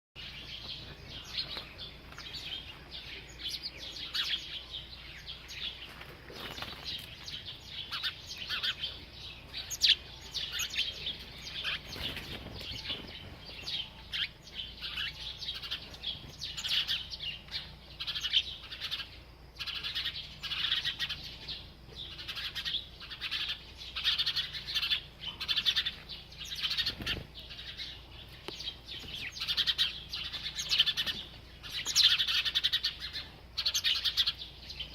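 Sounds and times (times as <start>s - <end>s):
bird chirping: 0.2s - 34.9s.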